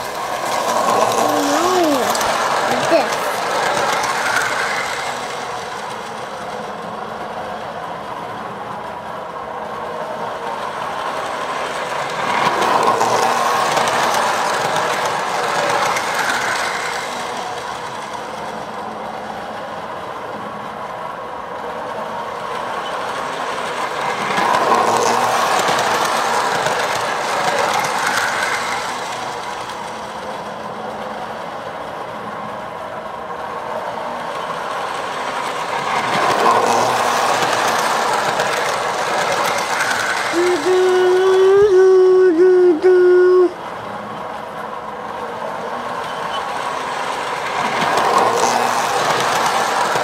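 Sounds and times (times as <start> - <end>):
toy train running on metal track: 0.0 - 50.0.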